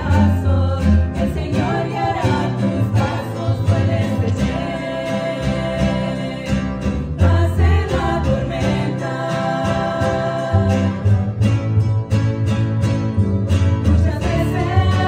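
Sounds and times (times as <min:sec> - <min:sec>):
women singing a hymn: 0:00.0 - 0:11.4, 0:13.9 - 0:15.0
plucked double bass: 0:00.0 - 0:15.0
strummed acoustic guitar: 0:00.0 - 0:15.0.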